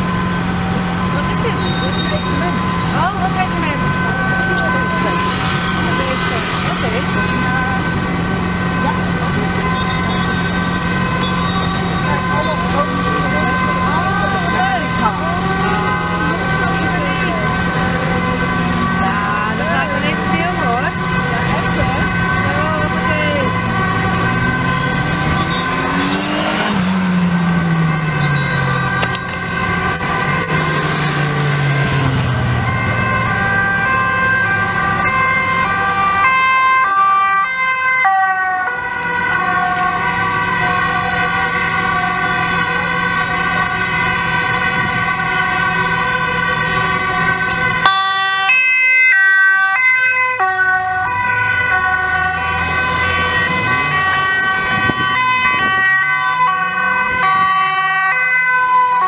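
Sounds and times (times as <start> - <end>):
emergency vehicle sirens: 0.0 - 59.0
vehicle engines passing: 0.0 - 59.0.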